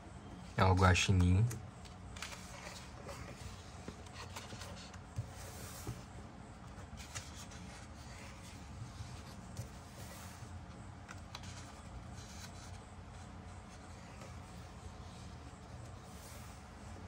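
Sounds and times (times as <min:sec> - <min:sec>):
paper pages rustling and turning: 0:00.6 - 0:17.0.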